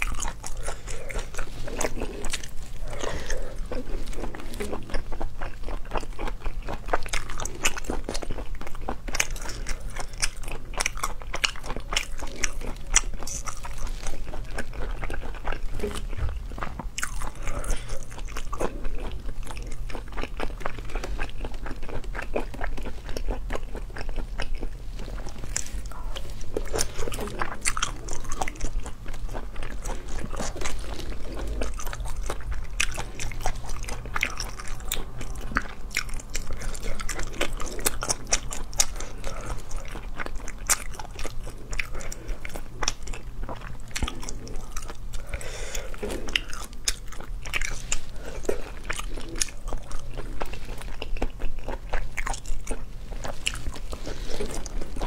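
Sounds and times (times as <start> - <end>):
chewing with wet clicks: 0.0 - 55.0.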